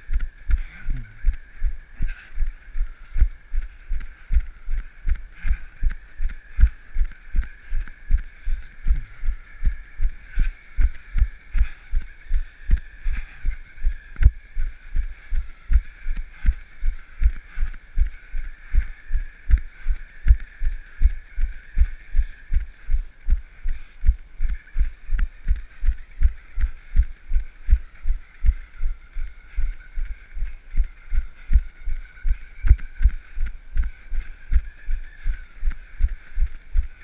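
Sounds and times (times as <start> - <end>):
running footsteps on pavement: 0.0 - 37.0.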